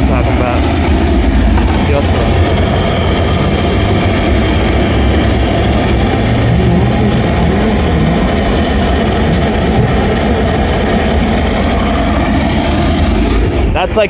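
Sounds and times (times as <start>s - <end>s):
deep rumbling noise: 0.0s - 14.0s.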